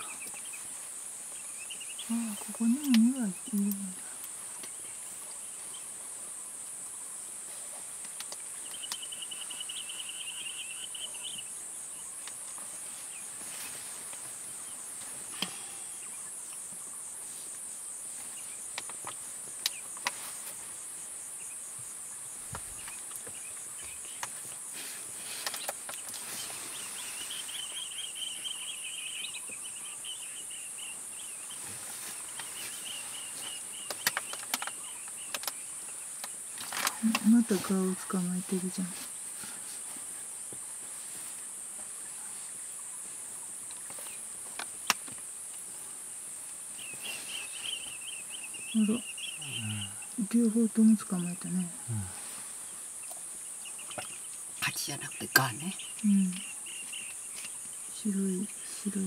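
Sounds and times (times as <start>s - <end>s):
chirring insect trills: 0.0s - 59.0s
high-pitched insect chorus: 0.0s - 59.0s.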